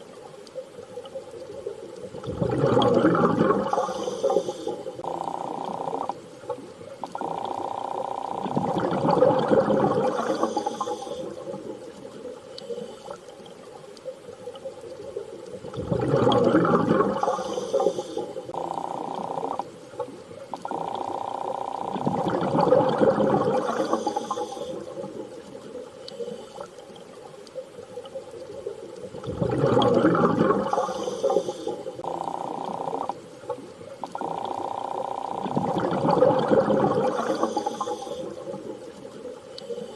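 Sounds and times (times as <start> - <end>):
underwater water surges: 0.0 - 39.9.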